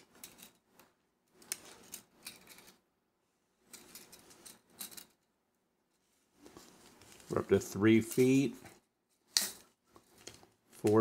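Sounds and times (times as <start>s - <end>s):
cord rustling: 0.0s - 11.0s.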